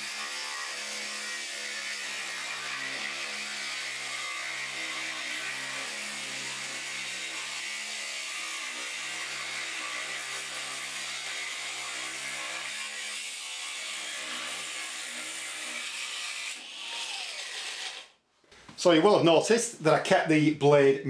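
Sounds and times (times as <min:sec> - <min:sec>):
angle grinder cutting metal: 0:00.0 - 0:18.2.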